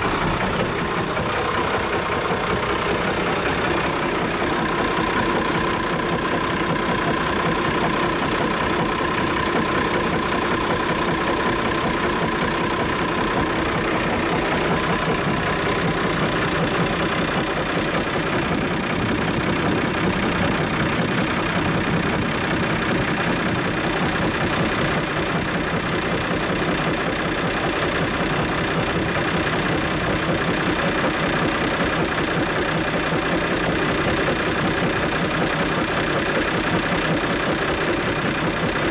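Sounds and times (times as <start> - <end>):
diesel boat engine idling: 0.0 - 38.9.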